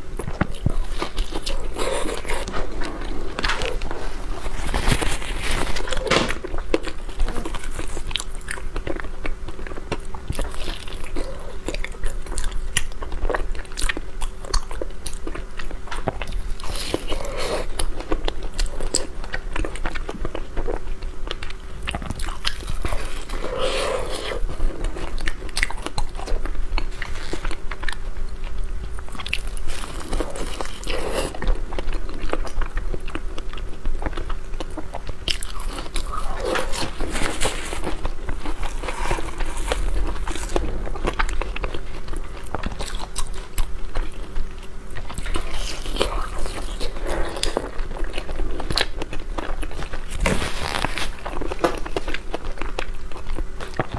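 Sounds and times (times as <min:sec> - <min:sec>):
person chewing pastry: 0:00.0 - 0:53.9.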